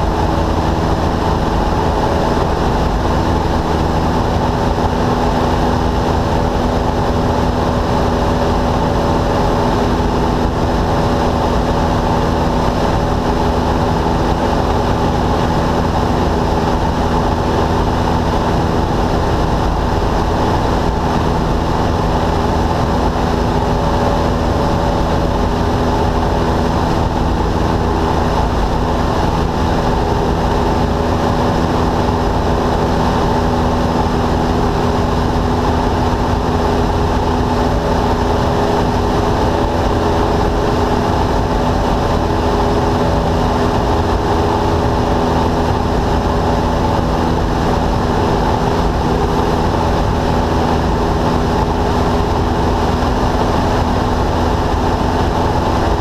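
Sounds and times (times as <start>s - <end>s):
airplane engine and propeller drone: 0.0s - 56.0s.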